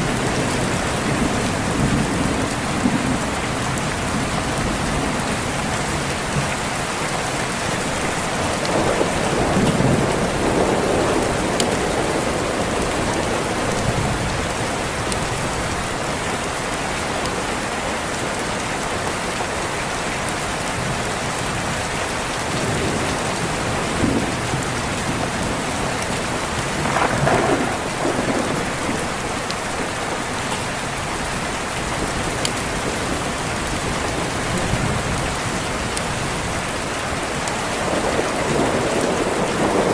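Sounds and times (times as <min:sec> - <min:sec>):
thunder rumbling: 0:00.0 - 0:17.4, 0:22.4 - 0:39.9
heavy rain: 0:00.0 - 0:39.9.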